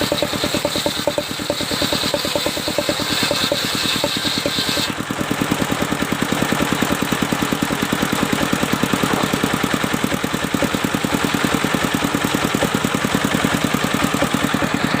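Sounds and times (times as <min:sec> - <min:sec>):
sawmill engine idling: 0:00.0 - 0:15.0.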